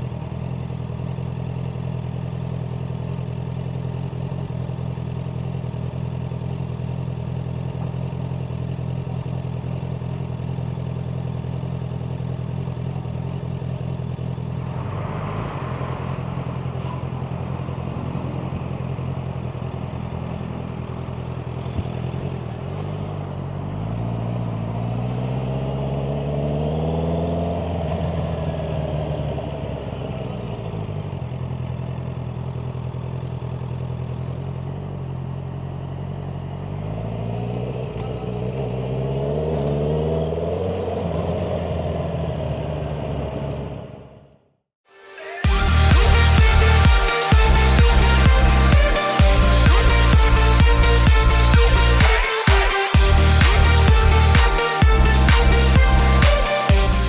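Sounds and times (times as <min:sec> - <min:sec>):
motorcycle engine revving: 0:00.0 - 0:44.2, 0:45.4 - 0:57.0.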